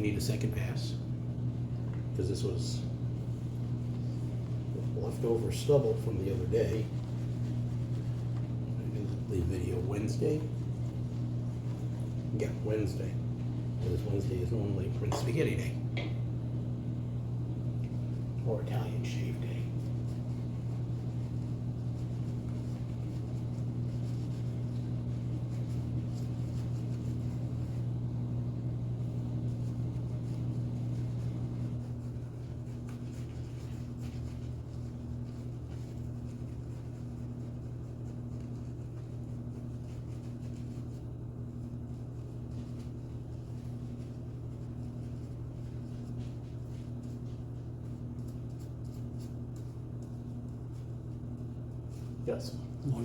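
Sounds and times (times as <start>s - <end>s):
laundry machine humming: 0.0s - 53.0s.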